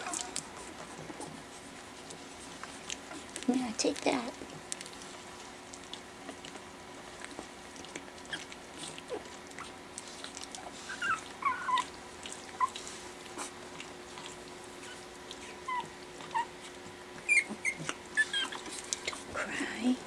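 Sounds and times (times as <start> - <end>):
puppies squeaking and whimpering: 0.0 - 3.4, 4.1 - 19.6.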